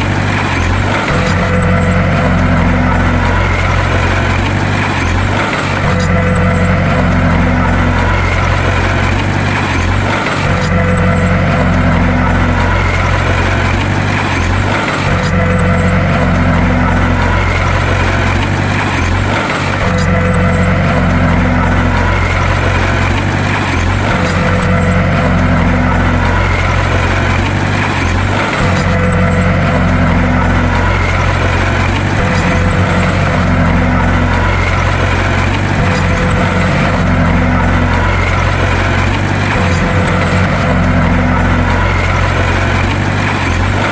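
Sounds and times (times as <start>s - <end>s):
bulldozer diesel engine drone: 0.0s - 43.9s.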